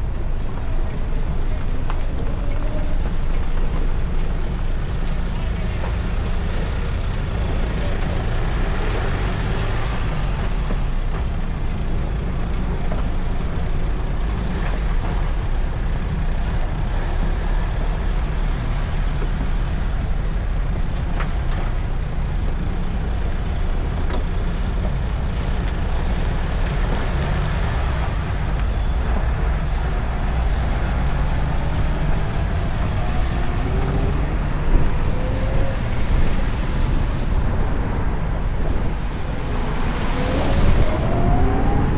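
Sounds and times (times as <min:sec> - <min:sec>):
street traffic: 0:00.0 - 0:41.9
wind rumble on microphone: 0:00.0 - 0:41.9.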